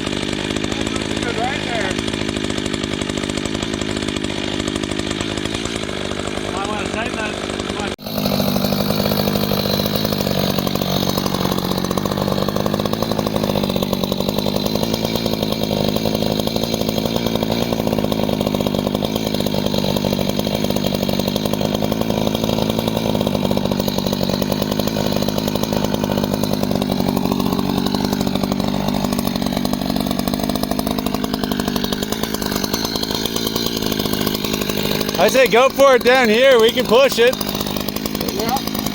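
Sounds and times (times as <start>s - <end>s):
power saw cutting log: 0.0s - 38.9s.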